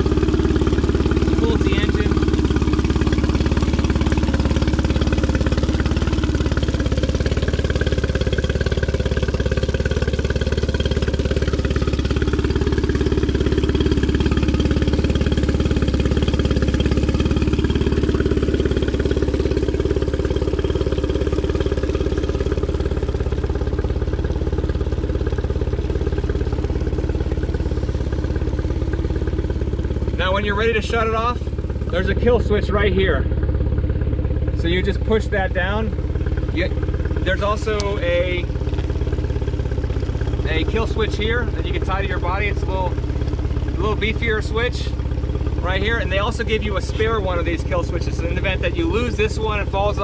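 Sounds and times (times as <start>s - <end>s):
outboard motor idling: 0.0s - 50.0s.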